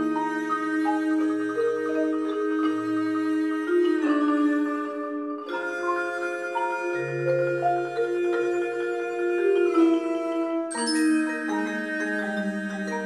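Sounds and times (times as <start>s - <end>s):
marimbas and vibraphones playing: 0.0s - 13.0s.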